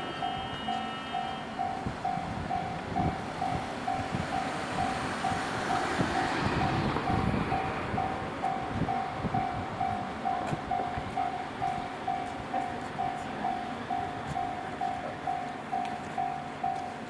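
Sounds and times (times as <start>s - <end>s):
level-crossing warning bell: 0.0s - 17.0s
train rumble and wheel clatter: 0.0s - 17.0s.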